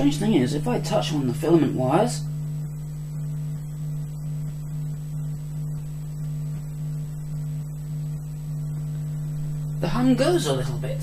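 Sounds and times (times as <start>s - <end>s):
mains hum through amplifier: 0.0s - 11.0s.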